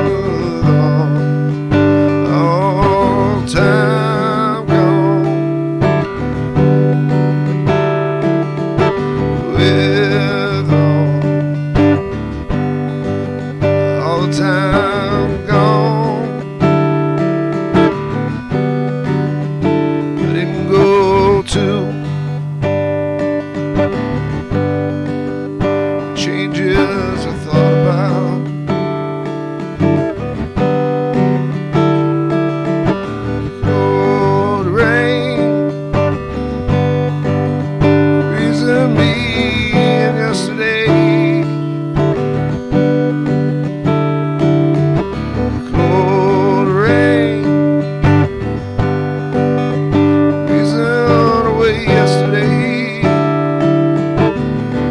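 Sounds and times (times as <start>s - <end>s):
acoustic guitar strumming: 0.0s - 54.9s.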